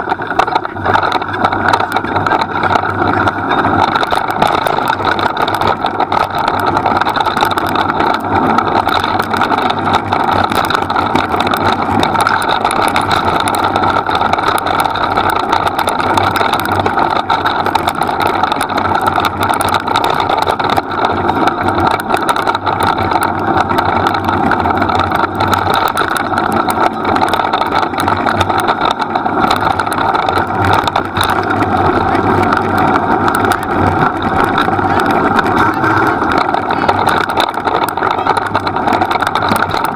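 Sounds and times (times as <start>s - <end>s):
wheeled rig rolling on dirt trail: 0.0s - 39.9s.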